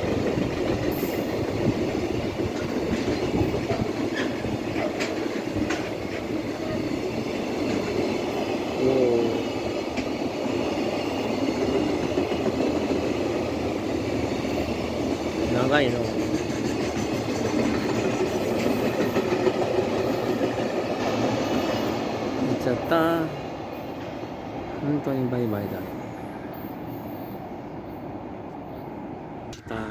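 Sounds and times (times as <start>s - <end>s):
clickety-clack of rail joints: 0.0s - 29.9s
freight train wheels rumbling: 0.0s - 29.9s.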